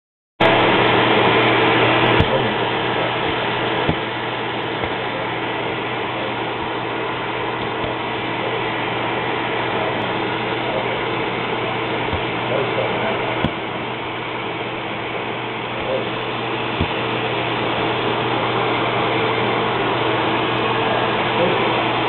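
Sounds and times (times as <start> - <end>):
vacuum cleaner humming: 0.4 - 22.0.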